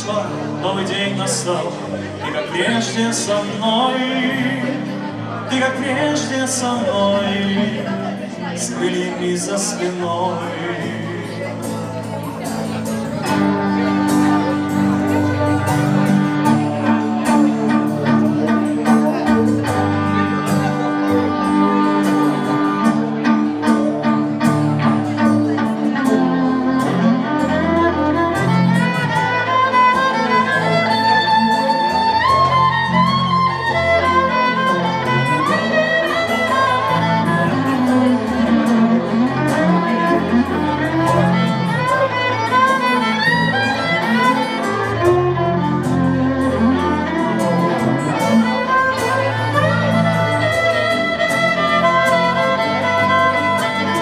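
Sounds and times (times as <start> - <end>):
low accompaniment: 0.0 - 54.0
violin gliding melody: 9.6 - 54.0.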